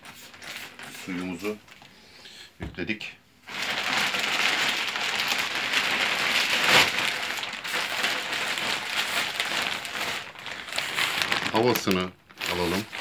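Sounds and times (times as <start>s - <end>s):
plastic bag rustling and crinkling: 0.0s - 1.9s, 3.5s - 13.0s.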